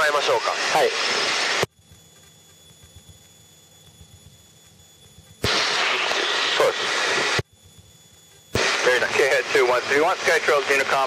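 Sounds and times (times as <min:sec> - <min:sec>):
faint hum: 0:00.0 - 0:11.0
helicopter cockpit noise rush: 0:00.0 - 0:11.0.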